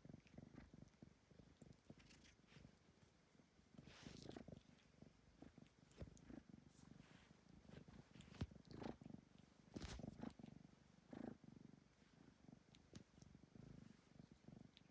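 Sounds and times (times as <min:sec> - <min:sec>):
cat purring: 0:00.0 - 0:14.9
soft rustles: 0:01.4 - 0:14.9.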